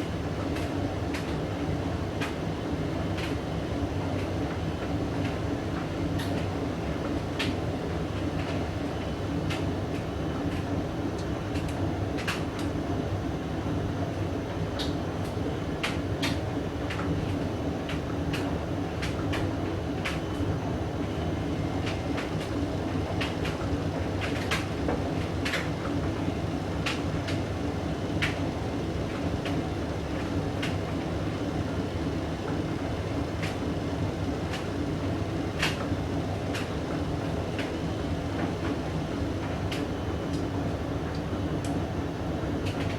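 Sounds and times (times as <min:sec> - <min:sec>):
washing machine motor hum: 0:00.0 - 0:42.9.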